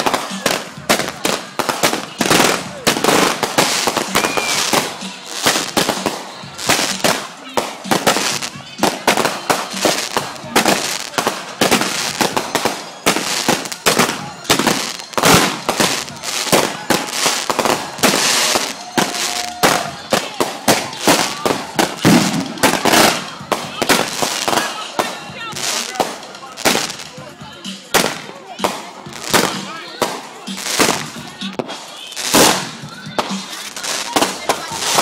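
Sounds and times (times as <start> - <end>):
fireworks banging: 0.0 - 35.0
fireworks crackling: 0.0 - 35.0.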